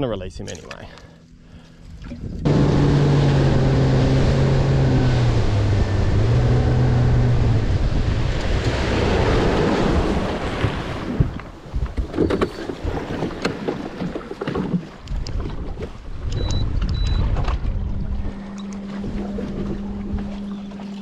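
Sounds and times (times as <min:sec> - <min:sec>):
outboard motor running: 0:00.5 - 0:21.0
wind buffeting microphone: 0:01.9 - 0:13.9, 0:15.0 - 0:20.6
water rushing past hull: 0:02.0 - 0:21.0.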